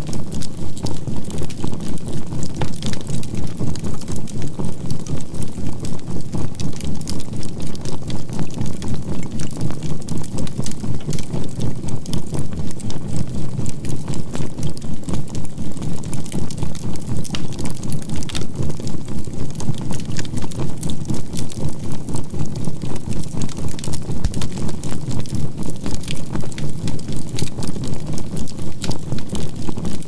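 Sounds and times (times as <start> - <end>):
campfire charcoal crackling: 0.1 - 30.0.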